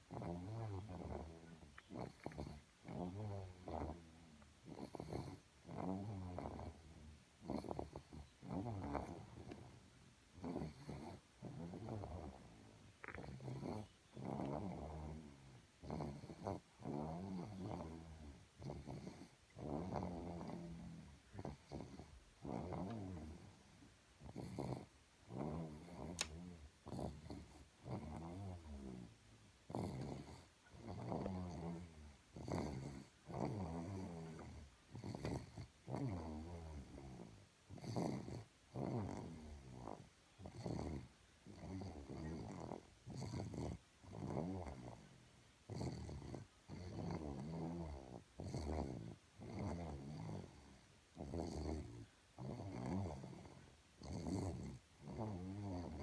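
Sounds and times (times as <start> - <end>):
dog snoring: 0.0 - 56.0.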